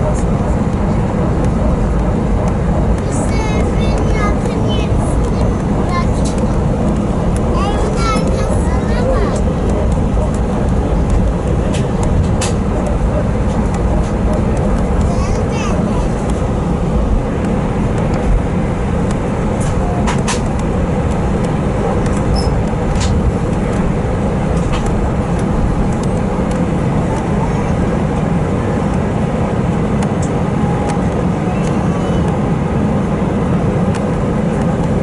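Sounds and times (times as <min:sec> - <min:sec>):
jet cabin rumble: 0:00.0 - 0:35.0.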